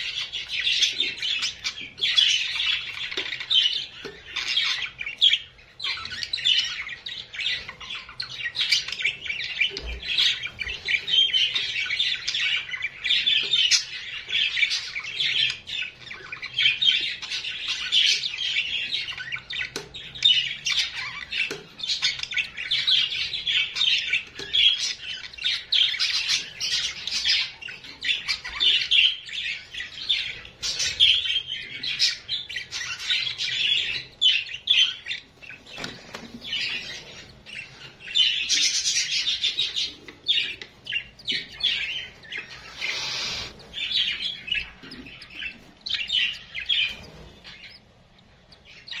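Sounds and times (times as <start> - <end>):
cage birds chirping and chattering: 0.0 - 49.0.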